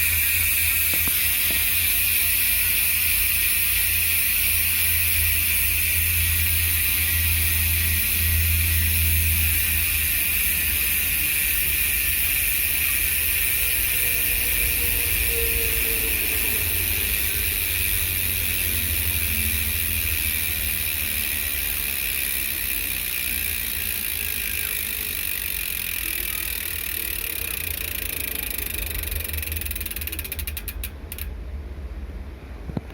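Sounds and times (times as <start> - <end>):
bicycle hub freewheeling buzz: 0.0 - 31.4.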